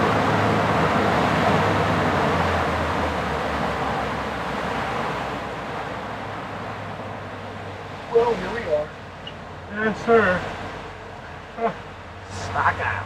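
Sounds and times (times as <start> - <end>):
boat engine hum: 0.0 - 13.0
rushing water: 0.0 - 13.0
rushing wind: 0.0 - 13.0.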